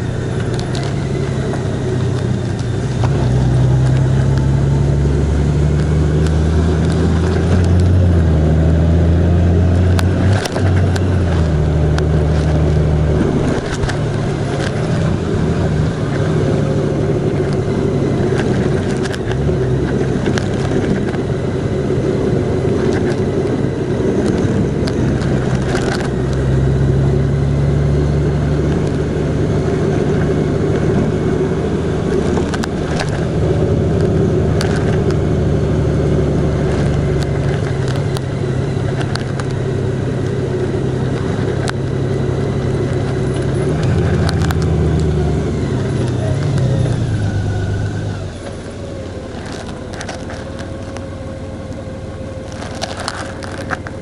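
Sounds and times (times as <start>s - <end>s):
car engine and tyre drone: 0.0s - 54.0s.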